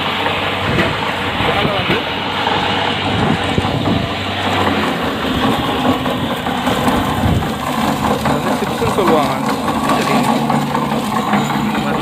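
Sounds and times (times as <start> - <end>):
machinery motor running: 0.0 - 12.0.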